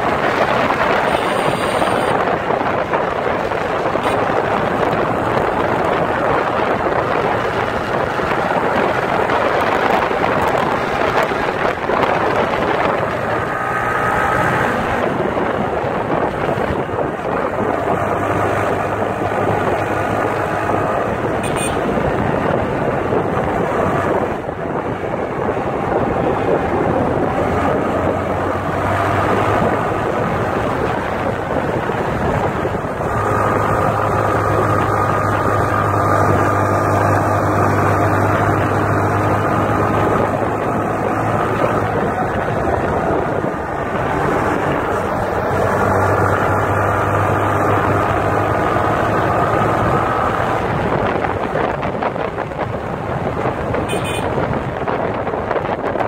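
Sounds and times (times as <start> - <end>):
motorcycle engine hum: 0.0 - 56.0
wind rushing over microphone: 0.0 - 56.0.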